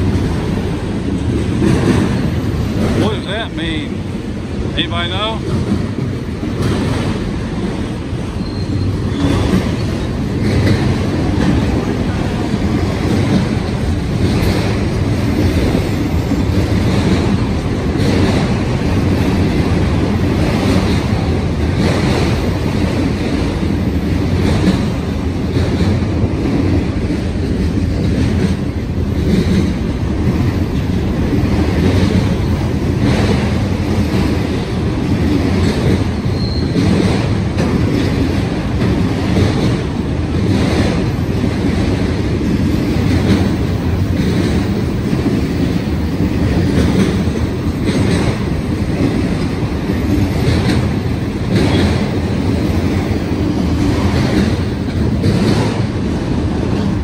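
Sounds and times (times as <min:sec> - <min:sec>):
train wheel clacks: 0:00.0 - 0:57.0.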